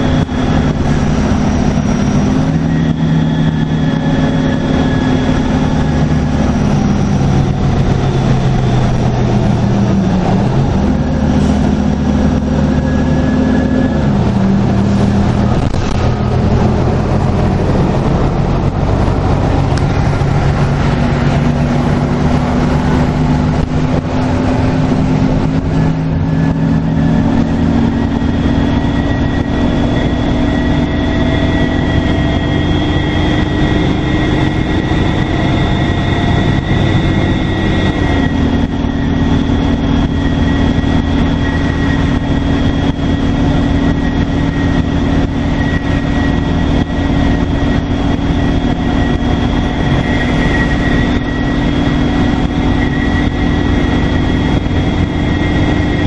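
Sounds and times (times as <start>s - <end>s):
bus diesel engine under load: 0.0s - 56.0s
turbocharger whistle: 0.0s - 56.0s.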